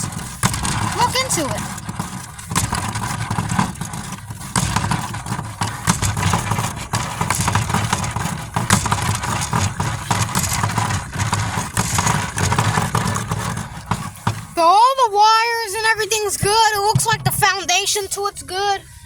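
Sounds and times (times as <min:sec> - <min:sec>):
sharp clicks and rattles: 0:00.0 - 0:18.9
engine rumbling: 0:00.0 - 0:19.0.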